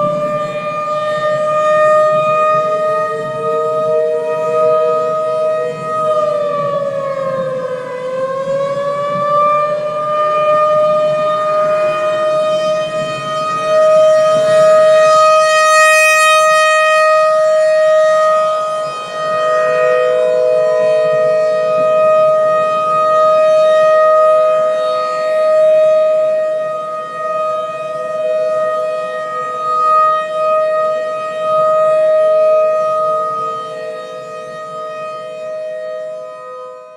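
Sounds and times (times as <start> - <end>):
warning siren wailing: 0.0 - 36.9.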